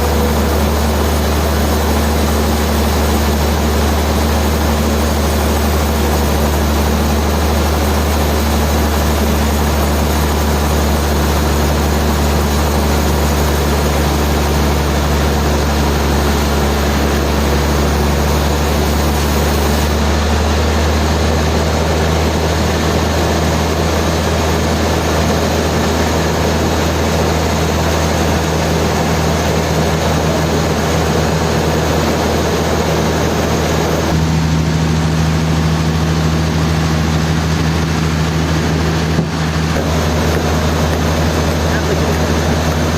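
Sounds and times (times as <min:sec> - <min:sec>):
sawmill machinery hum: 0:00.0 - 0:42.9.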